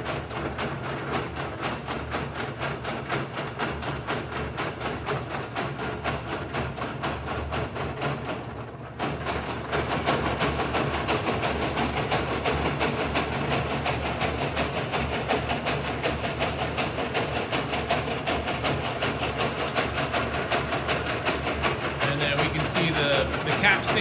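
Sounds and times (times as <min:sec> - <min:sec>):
braiding machine humming and clattering: 0:00.0 - 0:24.0.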